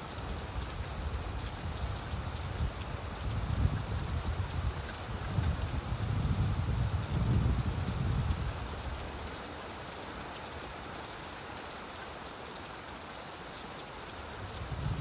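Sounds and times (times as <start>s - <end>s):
rain on surfaces: 0.0s - 15.0s.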